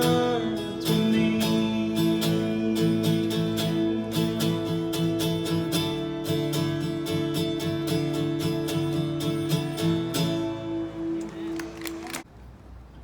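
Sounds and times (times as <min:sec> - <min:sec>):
strummed acoustic guitar: 0:00.0 - 0:11.5
sustained chords and bass: 0:00.0 - 0:11.8.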